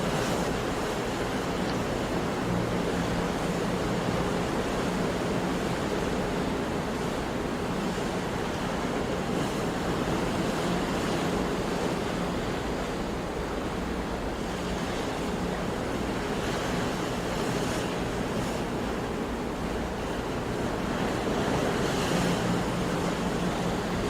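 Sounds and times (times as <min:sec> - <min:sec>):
sea waves washing in: 0:00.0 - 0:24.0
wind: 0:00.0 - 0:24.0.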